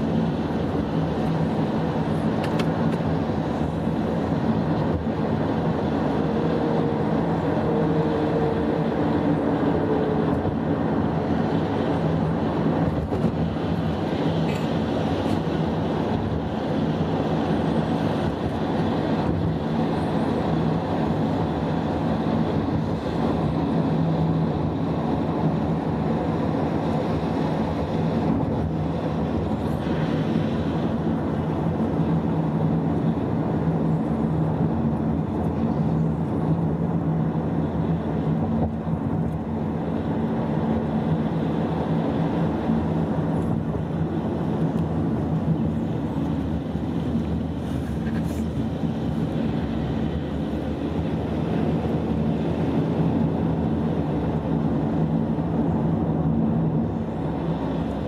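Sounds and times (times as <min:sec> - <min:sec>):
road noise: 0:00.0 - 0:58.0
vehicle engine drone: 0:00.0 - 0:58.0.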